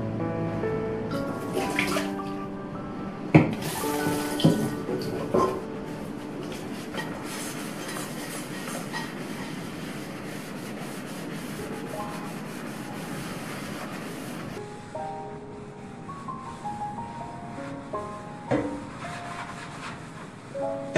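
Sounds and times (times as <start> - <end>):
faint background music: 0.0 - 9.4, 10.1 - 20.9
steady rubbing noise: 3.6 - 20.9.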